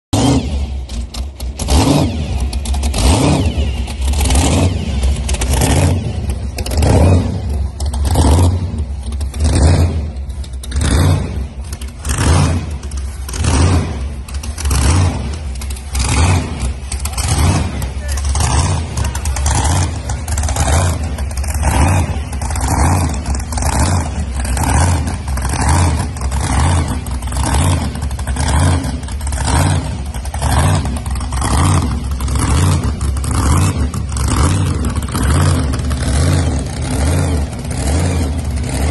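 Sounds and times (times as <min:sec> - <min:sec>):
lumpy engine idling: 0:00.2 - 0:38.9.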